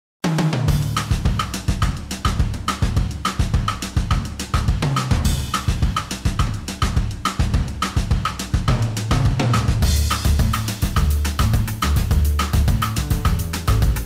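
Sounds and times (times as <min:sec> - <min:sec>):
drum kit beat: 0:00.2 - 0:14.0
bass line: 0:00.7 - 0:14.0.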